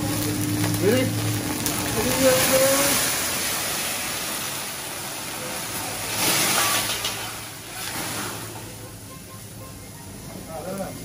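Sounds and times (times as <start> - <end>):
flambe sizzling on griddle: 0.0 - 11.0.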